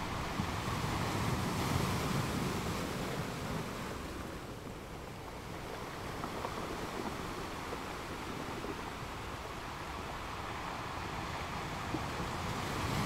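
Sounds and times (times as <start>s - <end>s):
ocean surf washing on shore: 0.0s - 13.0s.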